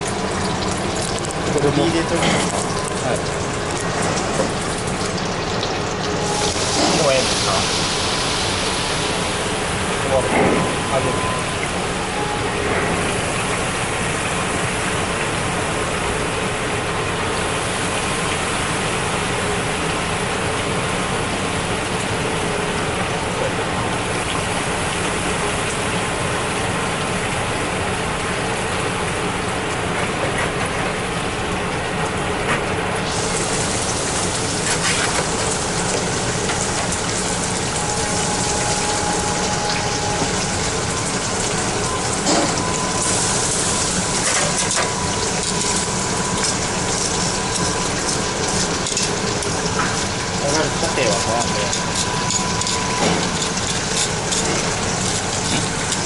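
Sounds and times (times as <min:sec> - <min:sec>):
food deep-frying in hot oil: 0:00.0 - 0:56.0.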